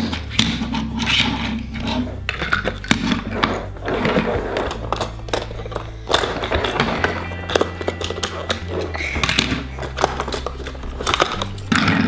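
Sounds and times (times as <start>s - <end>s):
toy cars rolling on a table: 0.0s - 12.0s.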